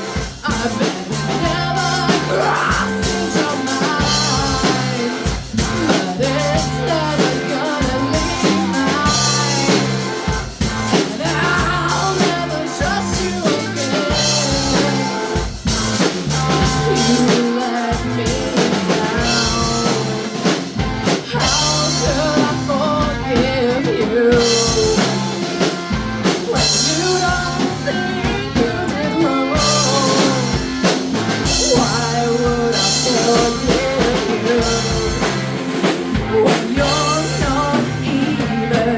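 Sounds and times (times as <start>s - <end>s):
bass guitar: 0.0s - 38.9s
drum kit: 0.0s - 38.9s
electric guitar: 0.0s - 38.9s
person singing: 0.0s - 38.9s.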